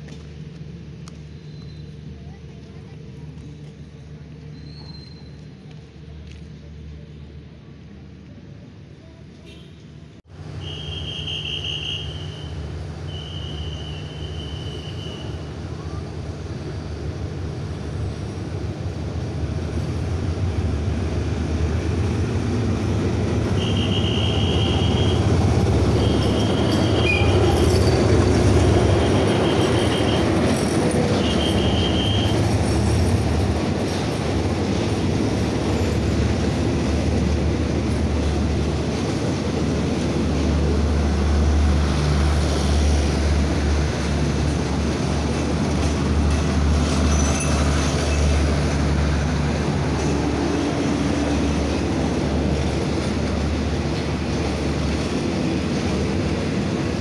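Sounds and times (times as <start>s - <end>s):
diesel locomotive engine drone: 0.0s - 57.0s
train wheels on rails: 9.3s - 57.0s.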